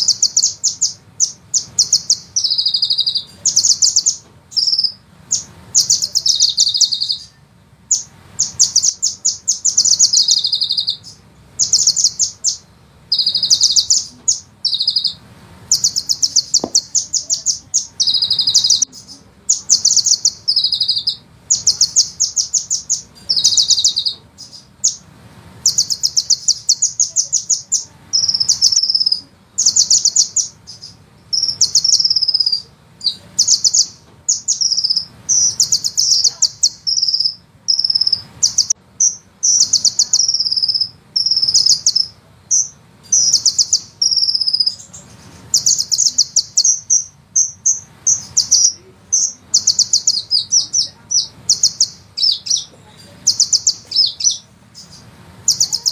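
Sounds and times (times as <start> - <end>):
bird trilling and chattering: 0.0 - 55.9.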